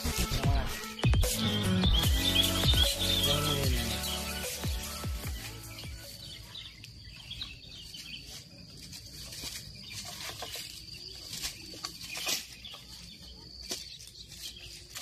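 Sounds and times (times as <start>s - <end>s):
birds chirping: 0.0s - 15.0s
high-pitched insect hum: 0.0s - 15.0s
pole rustling tree branches: 0.0s - 15.0s.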